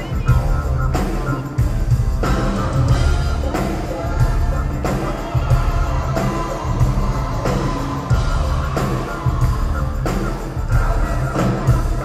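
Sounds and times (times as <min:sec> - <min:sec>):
bass: 0:00.0 - 0:12.0
heavy drums: 0:00.0 - 0:12.0
person singing lead vocal: 0:00.0 - 0:12.0
pop-rock band playing: 0:00.0 - 0:12.0.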